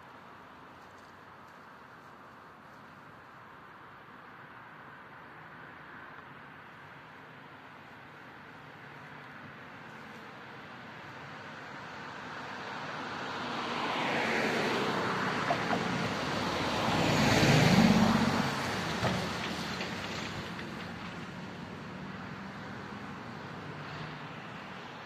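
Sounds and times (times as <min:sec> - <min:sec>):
truck engine and tyre noise: 0:00.0 - 0:25.0.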